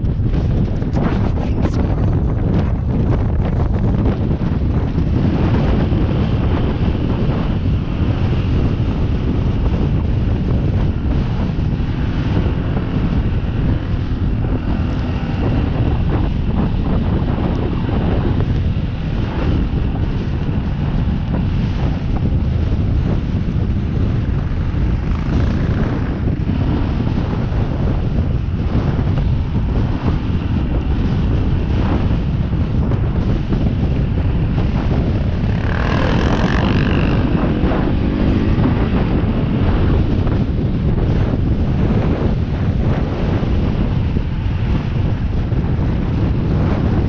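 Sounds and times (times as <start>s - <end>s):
motorbike engine running: 0.0s - 47.0s
wind buffeting microphone: 0.0s - 47.0s.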